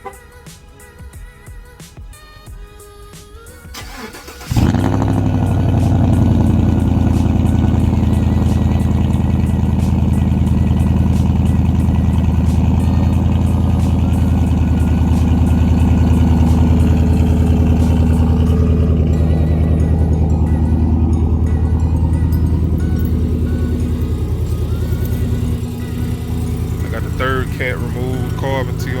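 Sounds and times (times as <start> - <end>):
engine cranking: 3.7 - 29.0
truck engine idling loudly: 3.7 - 29.0.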